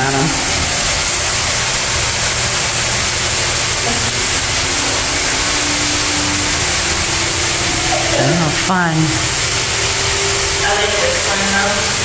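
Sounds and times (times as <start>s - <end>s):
shower water pouring on tiles: 0.0s - 12.0s.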